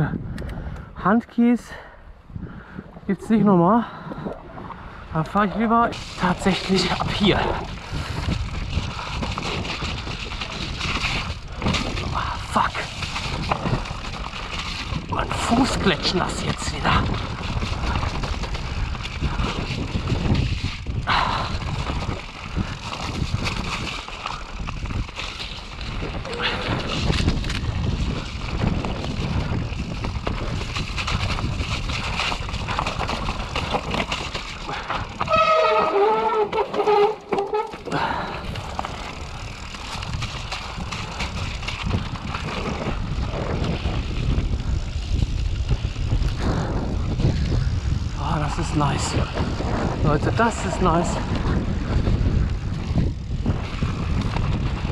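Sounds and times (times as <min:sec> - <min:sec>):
wind on microphone: 0:00.0 - 0:01.0, 0:02.1 - 0:54.9
tyres rumbling on dirt trail: 0:00.0 - 0:54.9
bike knocks and rattles: 0:06.0 - 0:54.9.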